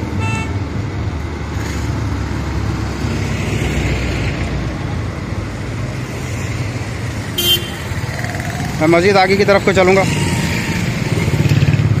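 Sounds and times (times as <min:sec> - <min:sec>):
road traffic rumbling: 0:00.0 - 0:12.0.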